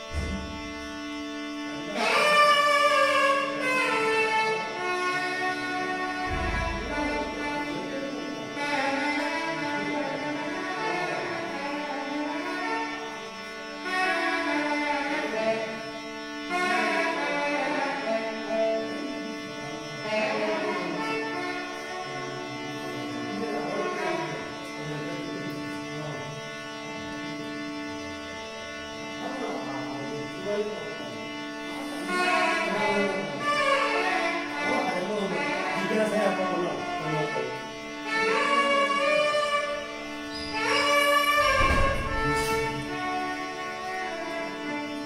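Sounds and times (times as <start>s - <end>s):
instrumental melody: 0.0s - 45.0s
steady drone: 0.0s - 45.0s.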